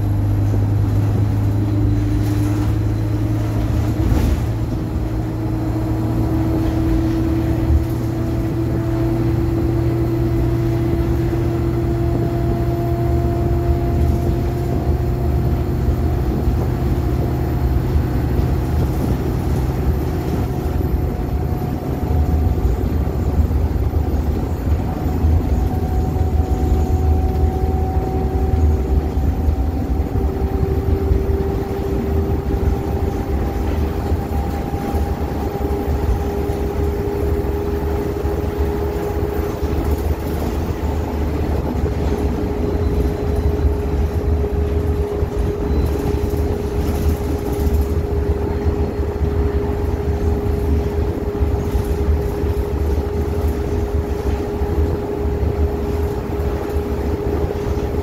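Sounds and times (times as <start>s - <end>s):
bus engine rumble: 0.0s - 58.0s
drivetrain whine: 0.0s - 58.0s.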